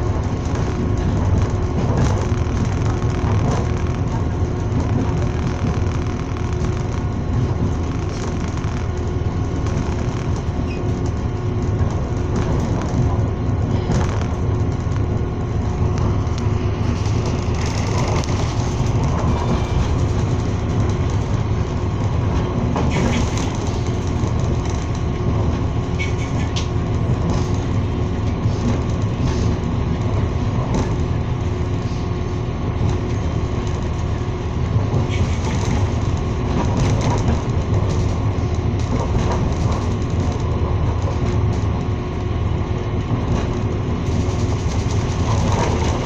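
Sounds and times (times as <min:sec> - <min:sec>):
constant hum: 0:00.0 - 0:46.0
track clacks: 0:00.0 - 0:46.0
train wheels rumbling on rail: 0:00.0 - 0:46.0.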